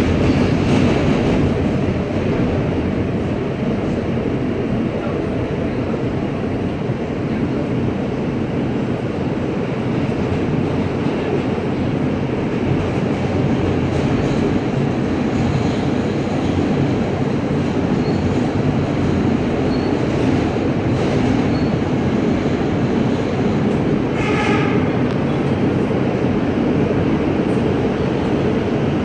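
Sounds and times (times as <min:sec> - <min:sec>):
subway wheels rumbling on rail: 0:00.0 - 0:29.0.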